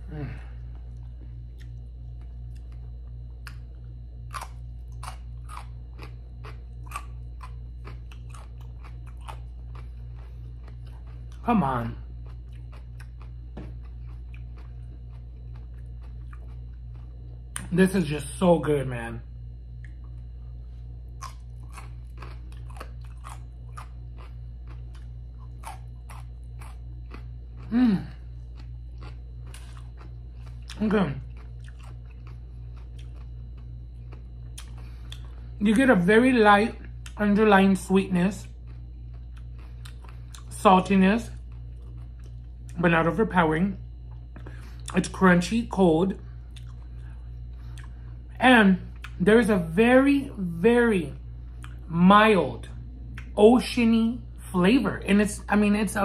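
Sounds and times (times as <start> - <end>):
crisp chewing of pickled radish: 0.0 - 18.4, 19.6 - 51.9, 52.6 - 53.8
steady low hum: 0.0 - 56.0.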